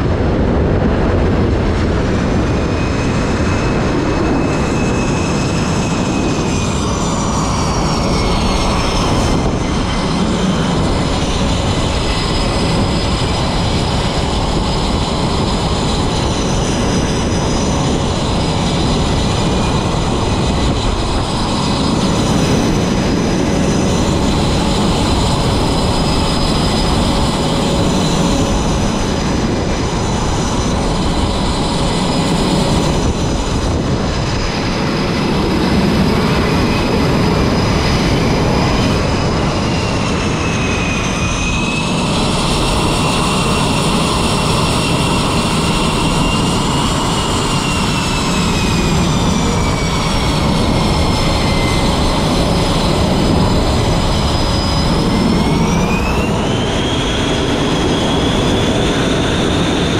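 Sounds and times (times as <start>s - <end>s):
jet engines with turbine whine: 0.0s - 59.9s.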